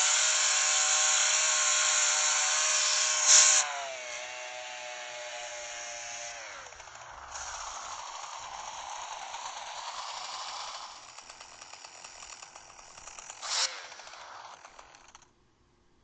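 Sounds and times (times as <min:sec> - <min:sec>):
chainsaw engine running: 0:00.0 - 0:15.3.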